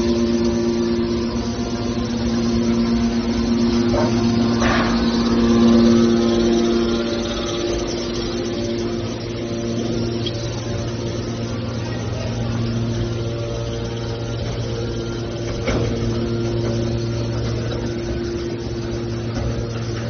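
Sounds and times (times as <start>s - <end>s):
hydraulic power unit humming: 0.0s - 20.0s.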